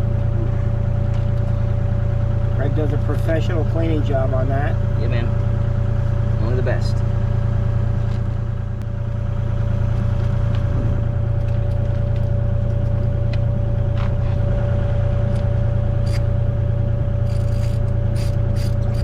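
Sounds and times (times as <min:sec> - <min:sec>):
excavator diesel engine idling: 0:00.0 - 0:19.0.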